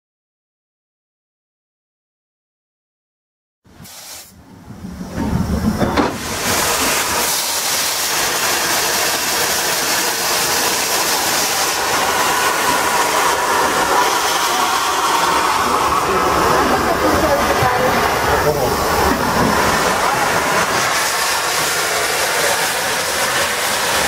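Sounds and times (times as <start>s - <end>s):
steam locomotive hissing: 3.8s - 4.4s, 5.0s - 24.0s.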